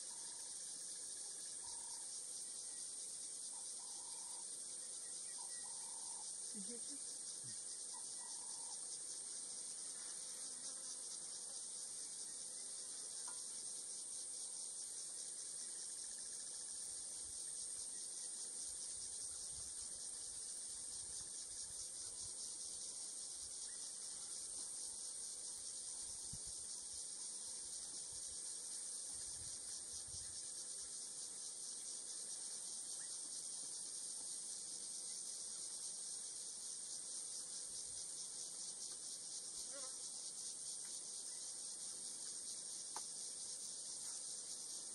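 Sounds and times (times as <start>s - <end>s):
insects buzzing trill: 0.0s - 44.9s.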